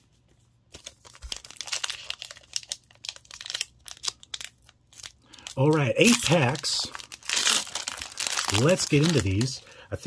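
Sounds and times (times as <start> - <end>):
foil wrapper crinkling: 0.7 - 9.8
foil pack tearing open: 0.8 - 9.6.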